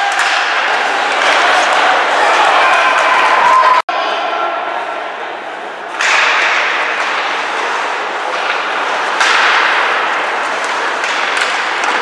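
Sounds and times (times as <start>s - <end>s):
rush of arena noise: 0.0s - 12.0s.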